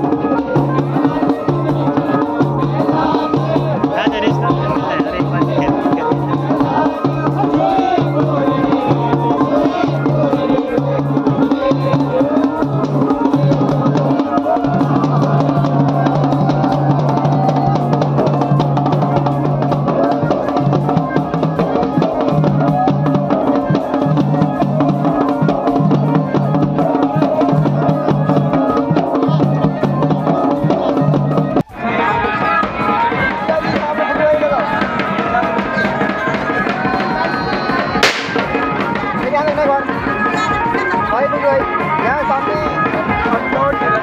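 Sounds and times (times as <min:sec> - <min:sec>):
drum beaten with a stick: 0:00.0 - 0:44.0.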